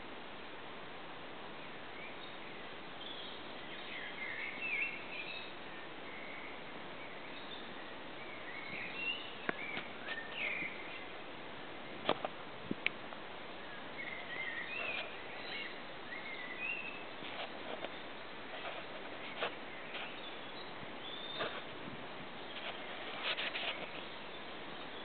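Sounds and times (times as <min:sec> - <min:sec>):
distant road traffic hiss: 0:00.0 - 0:25.0
songbirds singing: 0:01.5 - 0:25.0.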